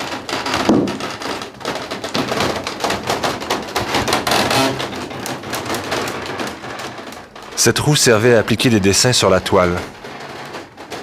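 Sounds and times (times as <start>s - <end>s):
wooden works clattering: 0.0s - 11.0s.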